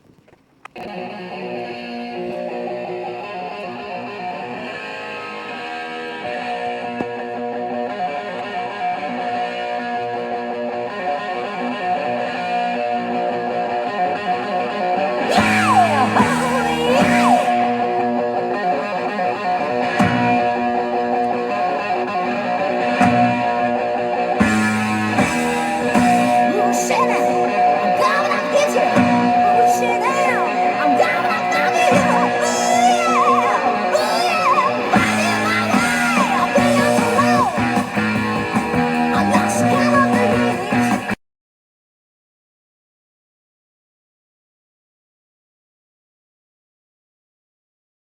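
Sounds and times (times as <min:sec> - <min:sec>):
guitar music from a record: 0:00.3 - 0:41.2.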